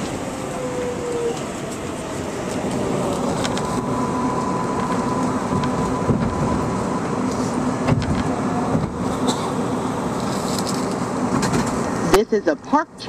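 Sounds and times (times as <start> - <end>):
thin whine: 0.0 - 11.0
subway train rumble: 0.0 - 13.0.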